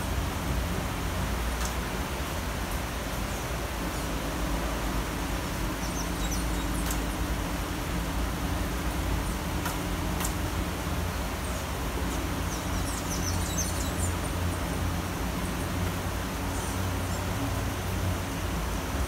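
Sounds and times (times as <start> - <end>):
low city rumble: 0.0 - 19.0
rain falling on trees: 0.0 - 19.0.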